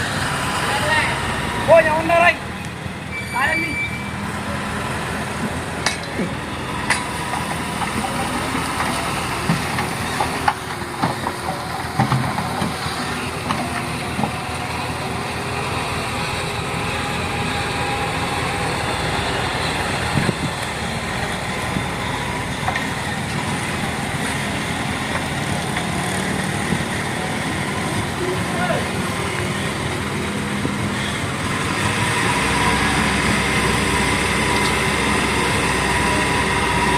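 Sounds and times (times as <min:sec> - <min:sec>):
dump truck engine running: 0:00.0 - 0:36.9.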